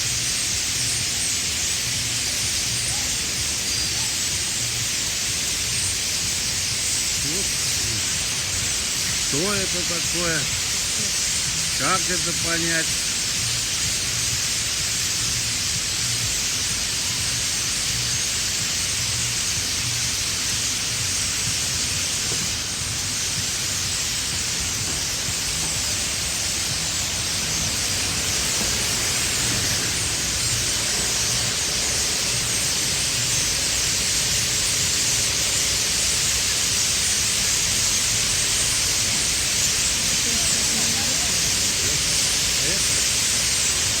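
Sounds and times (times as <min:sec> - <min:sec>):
flock of birds calling: 0:00.0 - 0:44.0.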